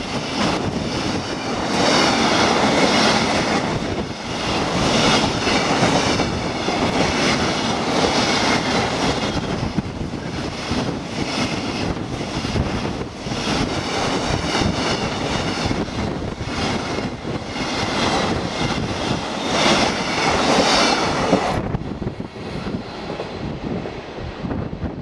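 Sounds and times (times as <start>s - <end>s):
faint train rumble: 0.0s - 25.0s
freight train wheel roar: 0.0s - 25.0s.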